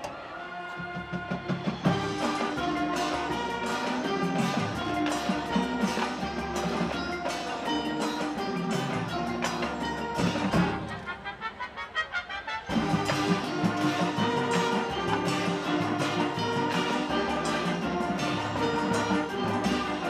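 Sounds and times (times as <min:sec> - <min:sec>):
marching band playing: 0:00.0 - 0:11.7, 0:12.4 - 0:20.0.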